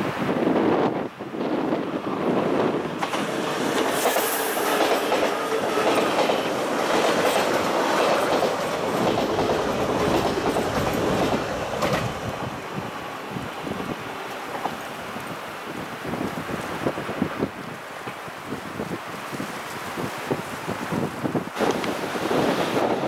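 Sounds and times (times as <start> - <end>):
electric train passing: 0.0 - 18.4, 21.5 - 23.0.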